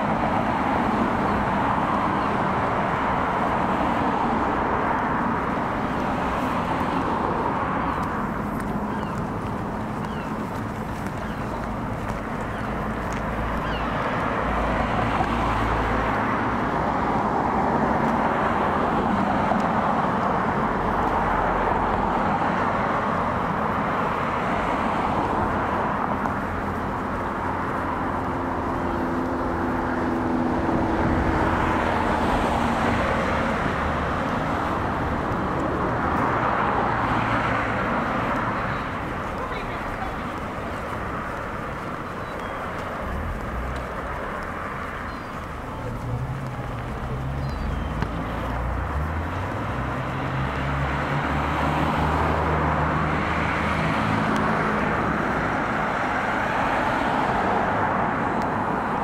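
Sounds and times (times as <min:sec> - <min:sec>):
cars passing on road: 0:00.0 - 0:59.0
vehicle engine hum: 0:00.0 - 0:59.0.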